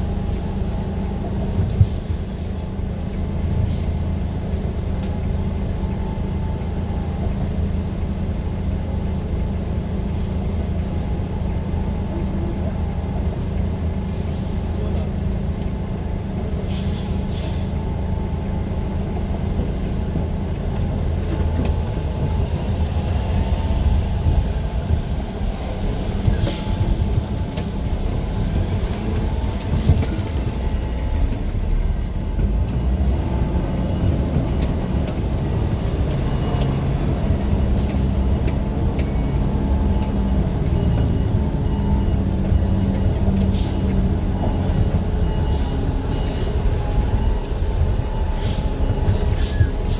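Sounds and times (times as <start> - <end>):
vehicle engine and road rumble: 0.0 - 49.9.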